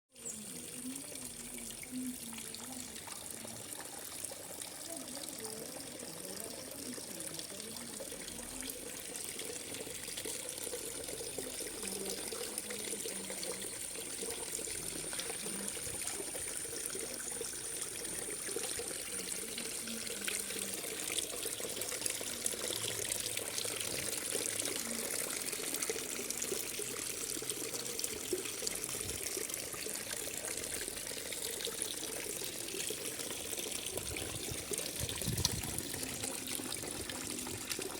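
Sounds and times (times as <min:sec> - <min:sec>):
water trickling and splashing: 0:00.1 - 0:37.9.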